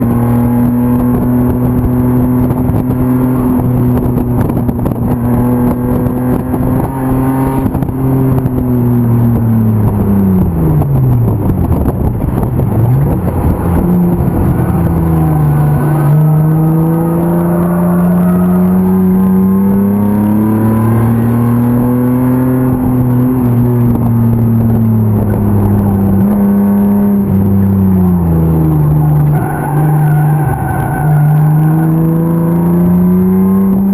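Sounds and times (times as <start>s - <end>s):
racing car engine under load: 0.0s - 33.9s.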